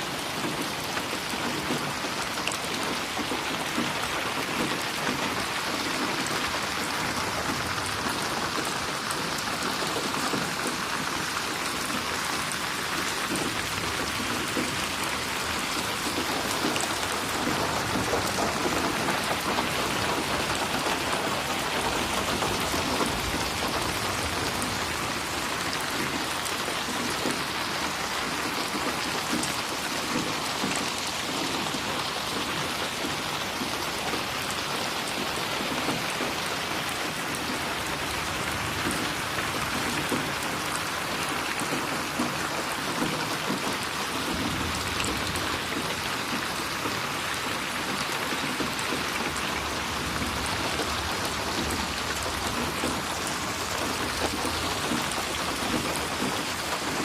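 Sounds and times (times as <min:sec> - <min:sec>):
rain patter on a surface: 0:00.0 - 0:57.0.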